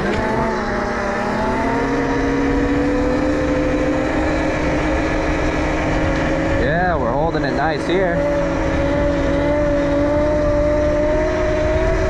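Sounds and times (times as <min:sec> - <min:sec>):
electric motor whining: 0:00.0 - 0:12.0
wind and road noise: 0:00.0 - 0:12.0.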